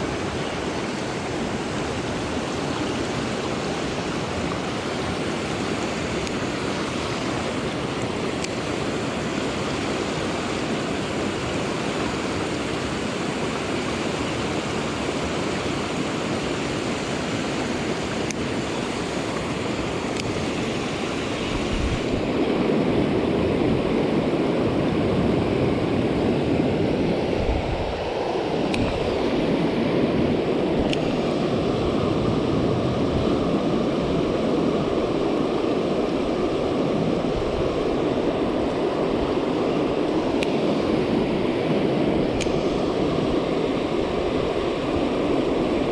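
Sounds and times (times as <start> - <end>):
fast-flowing stream rushing: 0.0 - 45.9.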